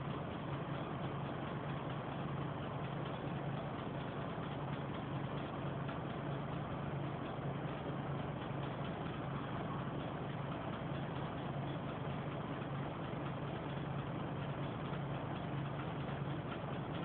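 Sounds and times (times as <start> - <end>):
bus engine hum: 0.0 - 17.0.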